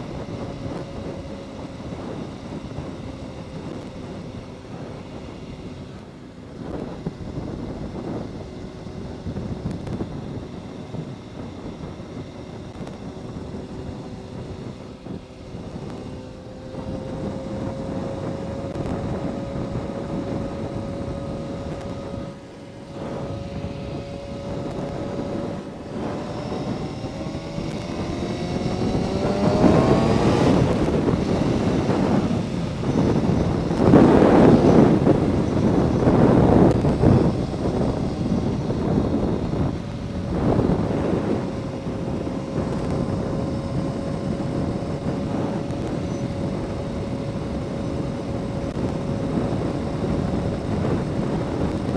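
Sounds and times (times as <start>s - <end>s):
motorcycle engine accelerating: 0.0s - 51.9s
wind noise on microphone: 0.0s - 51.9s.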